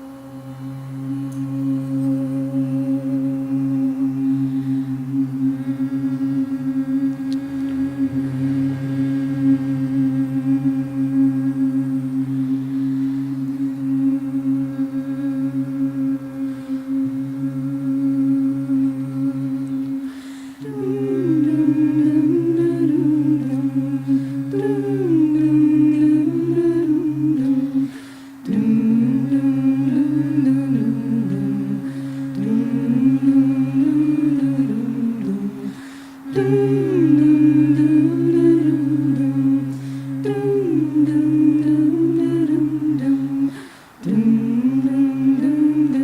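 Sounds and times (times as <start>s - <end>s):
lead voice singing melody: 0.0s - 46.0s
voices humming low drone: 0.0s - 46.0s.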